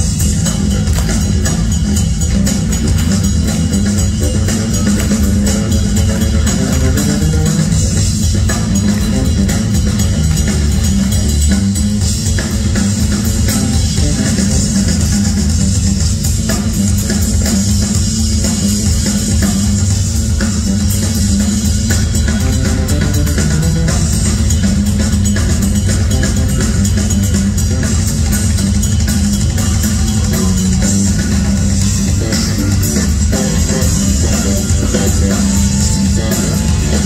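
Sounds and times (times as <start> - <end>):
bass guitar: 0.0 - 37.0
distorted electric guitar: 0.0 - 37.0
drum kit pounding: 0.0 - 37.0.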